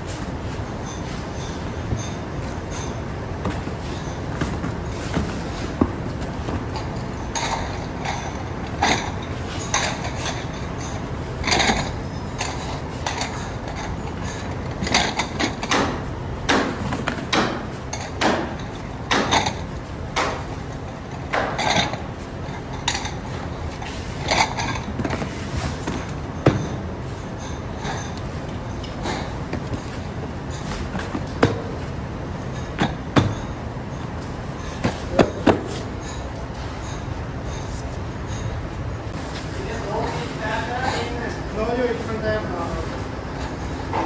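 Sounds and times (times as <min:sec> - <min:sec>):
low background noise: 0:00.0 - 0:44.0.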